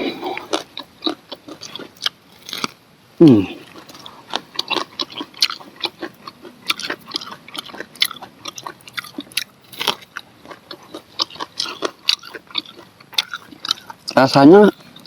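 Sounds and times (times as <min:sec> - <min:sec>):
person biting and chewing corn: 0:00.0 - 0:15.0.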